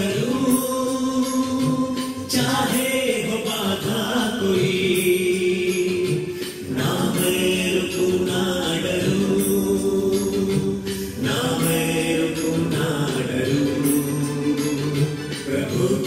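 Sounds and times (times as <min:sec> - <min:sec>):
group singing devotional song: 0:00.0 - 0:16.0.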